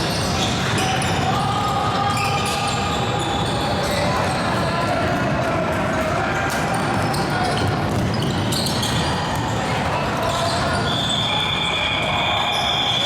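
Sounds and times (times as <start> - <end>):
voices: 0.0 - 13.0.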